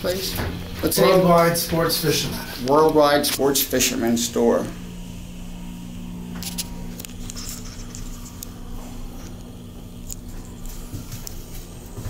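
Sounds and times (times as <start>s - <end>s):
elevator pump motor humming: 0.0s - 12.0s.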